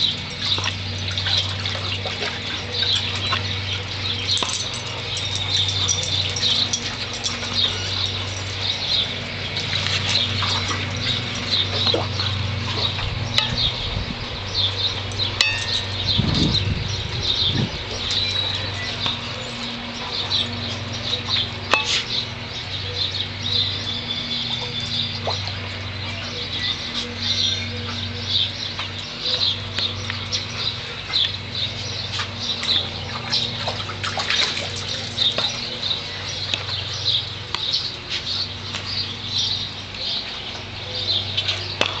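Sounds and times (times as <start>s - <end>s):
birds chirping: 0.0s - 42.0s
low hum: 0.0s - 42.0s.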